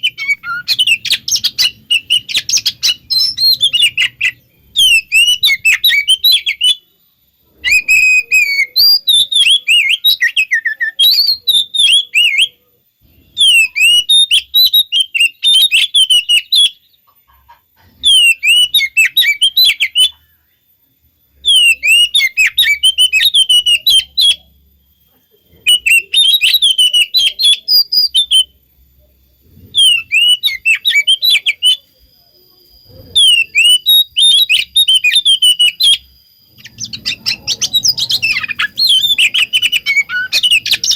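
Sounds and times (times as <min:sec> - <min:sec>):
bird chattering and whistling: 0:00.0 - 0:06.9, 0:07.5 - 0:12.6, 0:13.2 - 0:20.6, 0:21.4 - 0:24.6, 0:25.2 - 0:28.6, 0:29.4 - 0:40.9.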